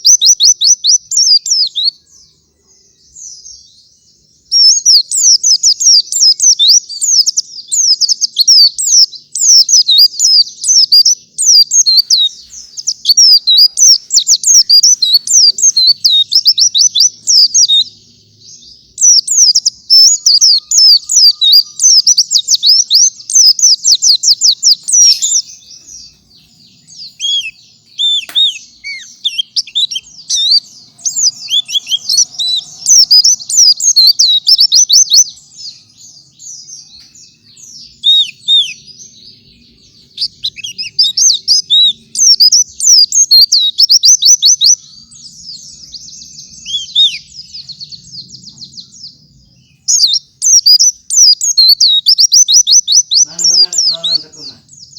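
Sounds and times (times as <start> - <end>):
bird singing high chirps and trills: 0.0 - 54.9.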